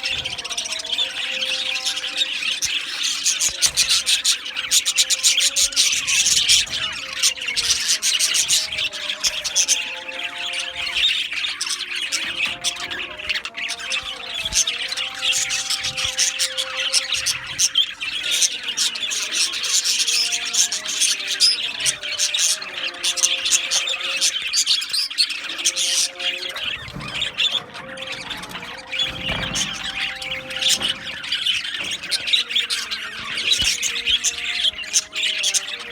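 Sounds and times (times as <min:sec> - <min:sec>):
budgerigars chattering and squawking: 0:00.0 - 0:35.9.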